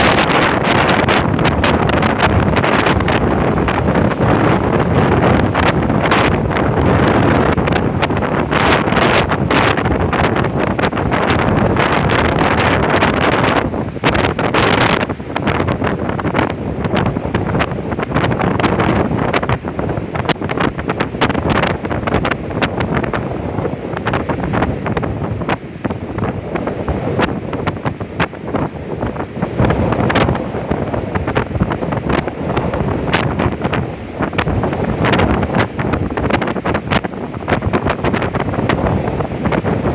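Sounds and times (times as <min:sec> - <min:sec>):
storm wind buffeting microphone: 0:00.0 - 0:39.9
stormy sea surf: 0:00.0 - 0:39.9.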